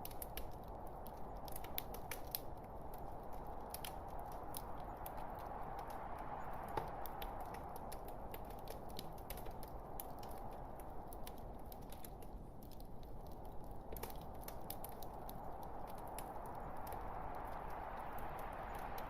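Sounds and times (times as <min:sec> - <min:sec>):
log fire crackling: 0:00.0 - 0:19.0.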